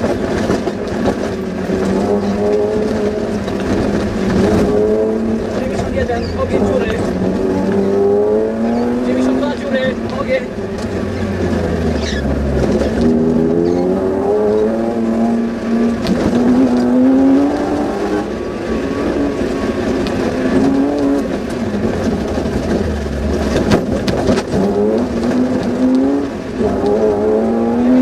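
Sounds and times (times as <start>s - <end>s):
car engine under full throttle: 0.0s - 28.0s.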